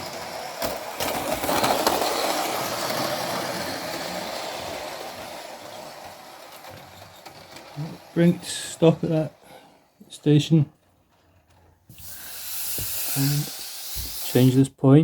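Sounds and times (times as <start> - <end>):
model locomotive rolling on track: 0.0 - 14.6.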